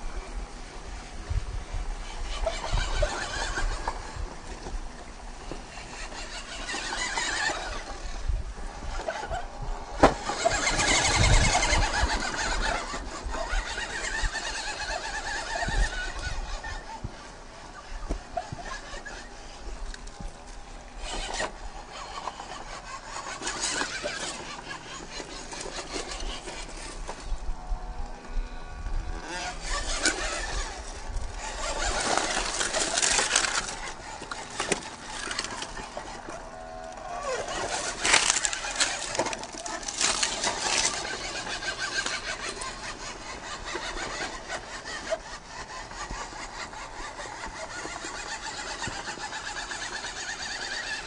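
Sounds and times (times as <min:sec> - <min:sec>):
toy car electric motor whining: 0:00.0 - 0:51.0
tyres scrabbling on gravel: 0:02.3 - 0:28.4, 0:29.0 - 0:51.0.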